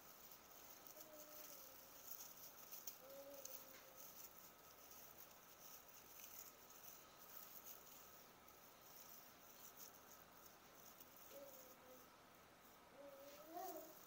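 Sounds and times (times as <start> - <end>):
artificial tree branches rustling: 0.0 - 14.0
thin steady whine: 0.0 - 14.0.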